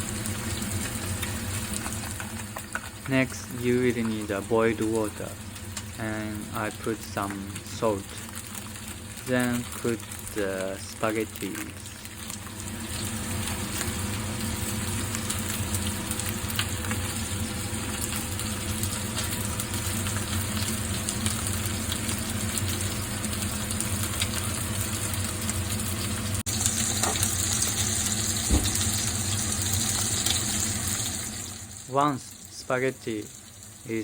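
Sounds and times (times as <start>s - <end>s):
water boiling in a pot: 0.0s - 34.0s.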